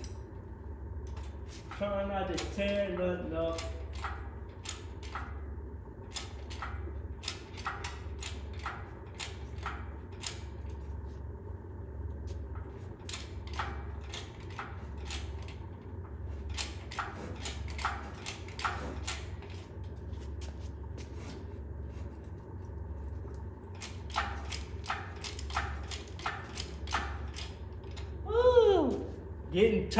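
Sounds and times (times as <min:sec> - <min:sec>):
low hum: 0:00.0 - 0:29.9.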